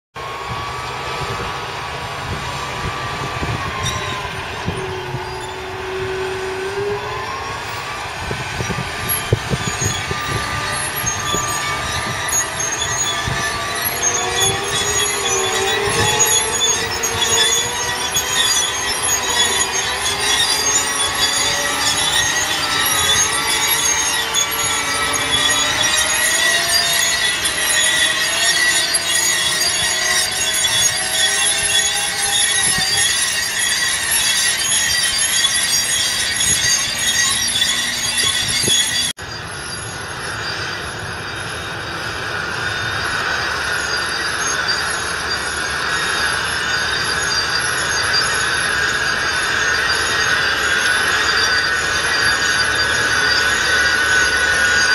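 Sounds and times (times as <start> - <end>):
high whining tones: 0.2 - 54.9
wavering squeals: 0.2 - 54.9.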